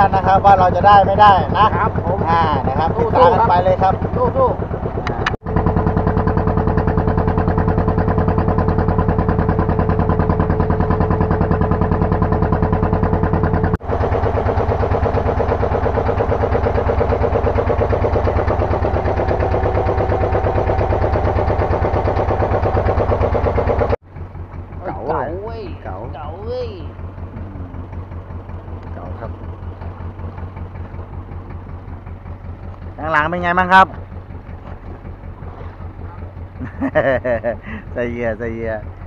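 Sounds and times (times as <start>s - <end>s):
boat engine chugging: 0.0s - 39.0s.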